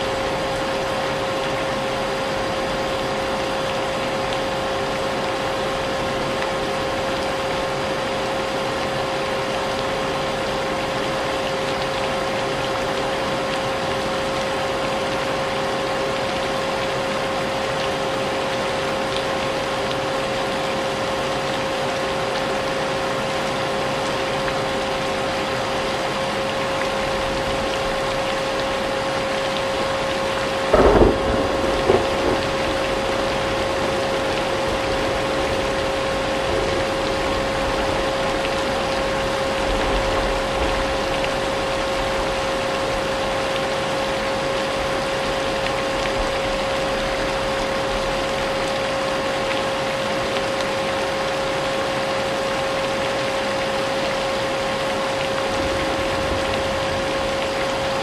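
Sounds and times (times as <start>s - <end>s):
rain: 0.0s - 58.0s.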